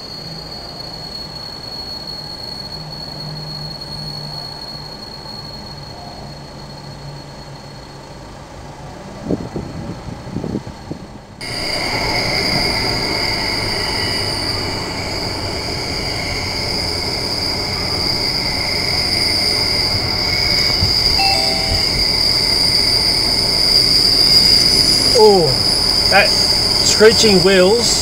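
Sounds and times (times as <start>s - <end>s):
train wheels squealing on rails: 0.0s - 28.0s.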